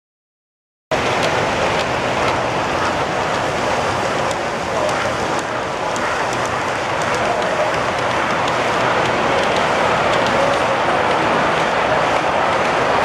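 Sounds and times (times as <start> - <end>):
model train rolling: 0.9 - 13.0.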